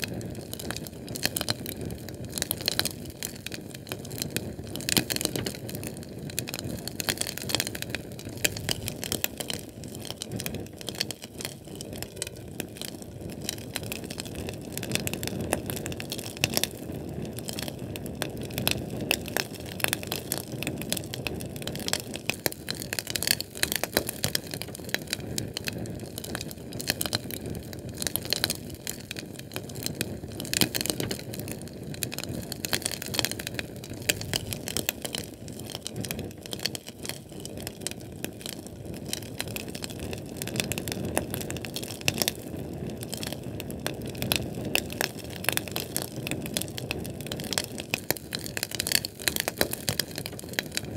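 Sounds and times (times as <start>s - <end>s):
fire crackling: 0.0s - 50.9s
flames rushing: 0.0s - 50.9s.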